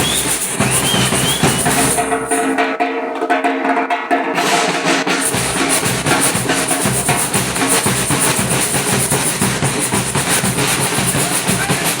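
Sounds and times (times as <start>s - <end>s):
deep drum beats: 0.0s - 2.7s, 4.3s - 12.0s
samba percussion group drumming: 0.0s - 12.0s.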